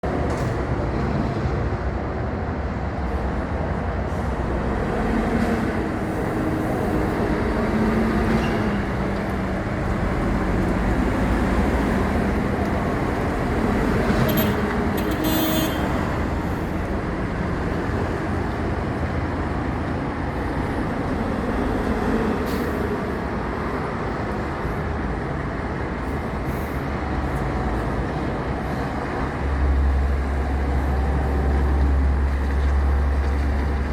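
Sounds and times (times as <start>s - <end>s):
heavy vehicle engine running: 2.2s - 33.9s.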